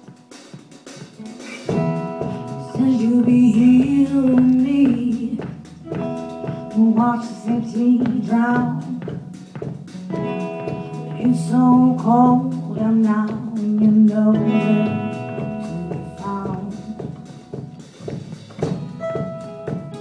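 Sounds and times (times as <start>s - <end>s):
bending lead guitar melody: 0.0s - 20.0s
live band playing: 0.0s - 20.0s.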